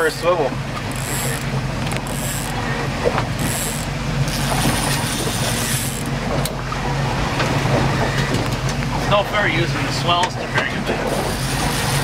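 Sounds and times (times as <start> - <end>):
boat engine humming: 0.0 - 12.0
waves: 0.0 - 12.0
wind: 0.0 - 12.0.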